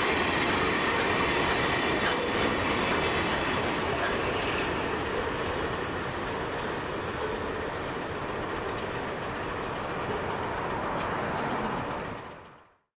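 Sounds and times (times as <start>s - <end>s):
train wagons rolling on rails: 0.0s - 12.9s.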